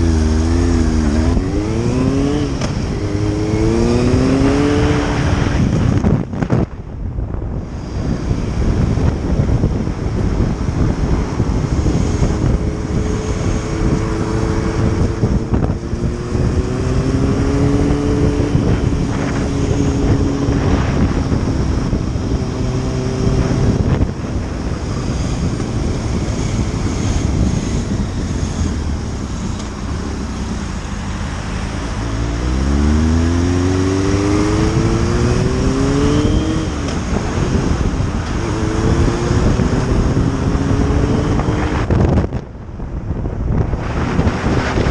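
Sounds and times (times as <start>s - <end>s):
motorcycle engine accelerating: 0.0s - 44.9s
wind rush on microphone: 0.0s - 44.9s.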